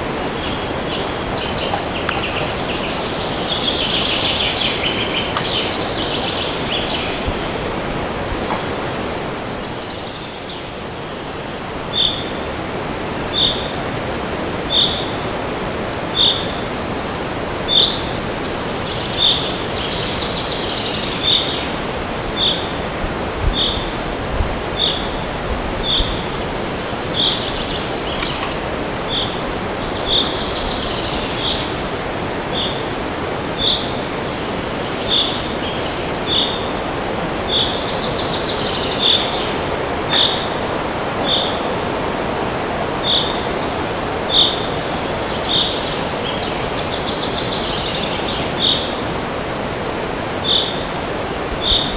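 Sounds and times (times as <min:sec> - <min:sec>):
bird warbling song: 0:00.0 - 0:13.8, 0:14.6 - 0:51.9
wind rushing through trees: 0:00.0 - 0:51.9.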